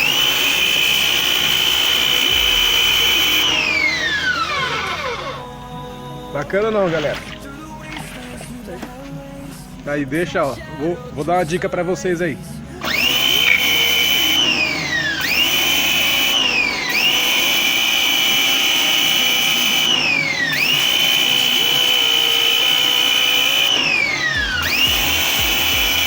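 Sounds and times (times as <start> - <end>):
pressure washer motor whining: 0.0 - 9.1, 12.8 - 26.0.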